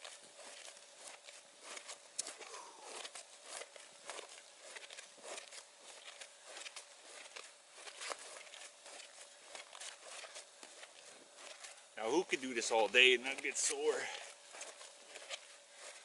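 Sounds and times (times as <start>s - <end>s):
line rustling through gloves: 0.0s - 16.0s.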